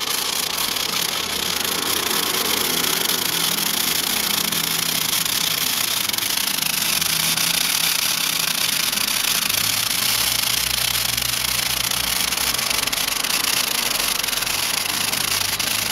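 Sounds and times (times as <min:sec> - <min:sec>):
firework fountain hissing: 0:00.0 - 0:15.9.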